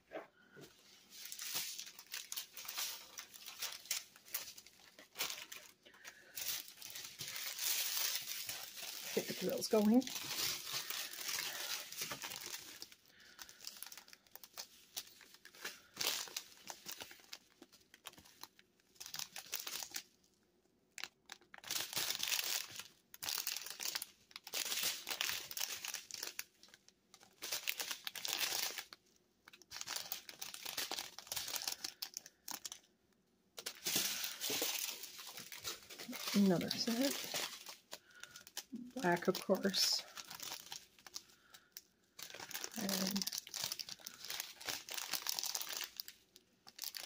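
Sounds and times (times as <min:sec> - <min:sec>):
plastic bags crinkling: 0:00.4 - 0:33.0, 0:33.6 - 0:47.0.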